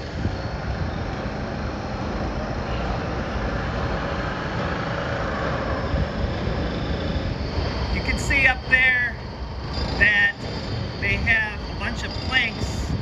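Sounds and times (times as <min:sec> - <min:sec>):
distant heavy machinery rumble: 0:00.0 - 0:13.0.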